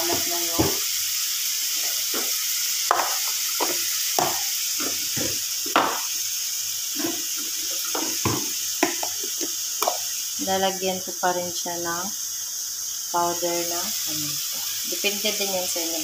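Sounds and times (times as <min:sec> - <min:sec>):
shrimp sizzling in a frying pan: 0:00.0 - 0:16.0.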